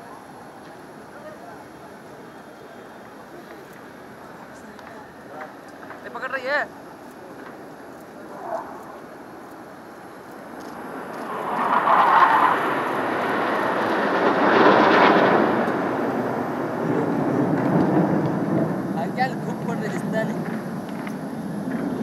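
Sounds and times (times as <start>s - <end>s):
jet engines roaring overhead: 0.0s - 22.0s.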